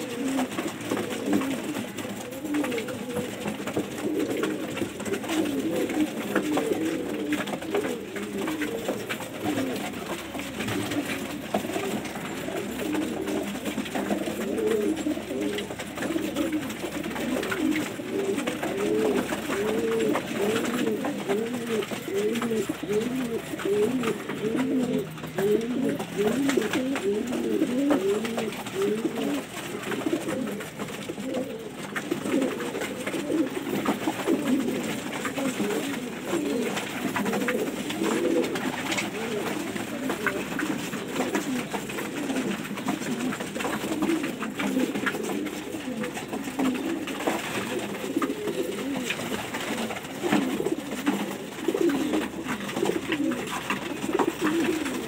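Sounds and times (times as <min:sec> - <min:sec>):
pigeons cooing: 0:00.0 - 0:55.0.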